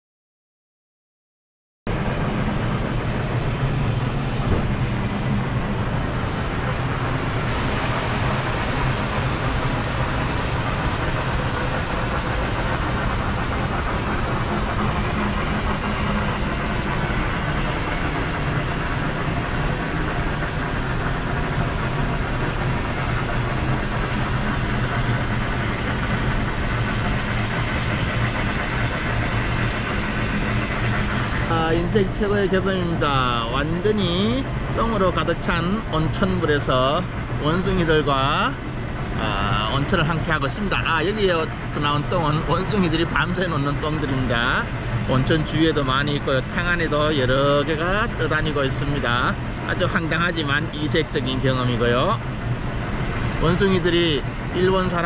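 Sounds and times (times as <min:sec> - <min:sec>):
rushing noise with low rumble: 0:01.9 - 0:55.0.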